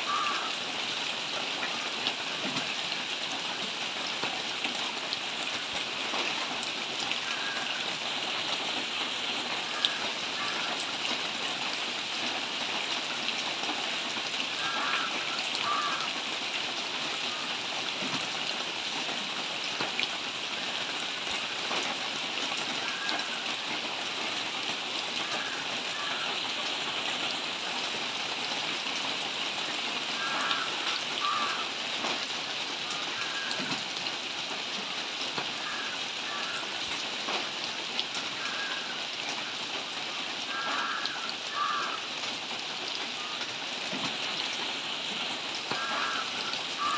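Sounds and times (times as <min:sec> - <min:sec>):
rain falling on foliage: 0:00.0 - 0:46.9.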